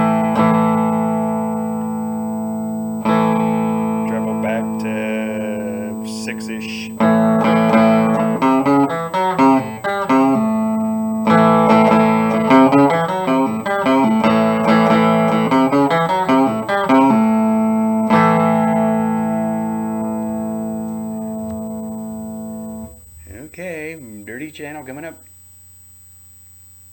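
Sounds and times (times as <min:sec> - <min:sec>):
clean electric guitar chords: 0:00.0 - 0:25.2.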